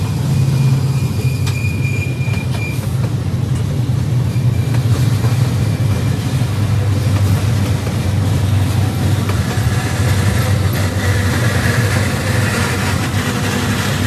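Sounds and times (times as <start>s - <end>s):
freight train cars rumbling: 0.0s - 14.0s.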